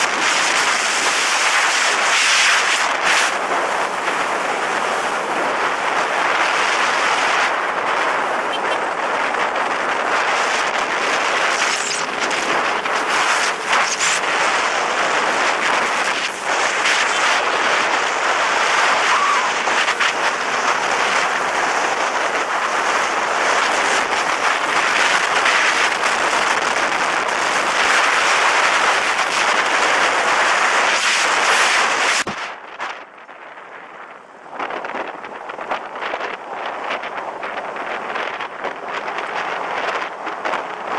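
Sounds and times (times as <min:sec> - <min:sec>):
wind buffeting pops: 0:00.0 - 0:40.9
wind roaring on microphone: 0:00.0 - 0:40.9.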